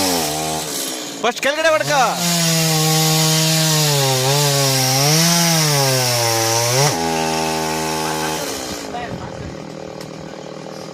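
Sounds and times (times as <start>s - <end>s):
chainsaw cutting into tree: 0.0s - 10.9s.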